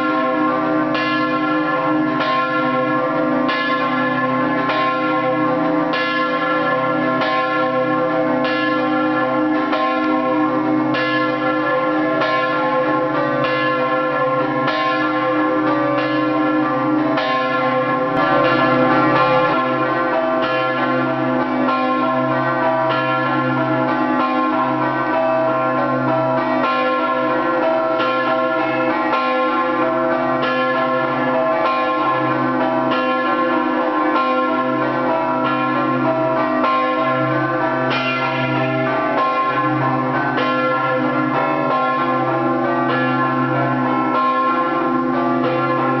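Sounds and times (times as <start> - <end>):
church bells ringing rhythmically: 0.0 - 46.0.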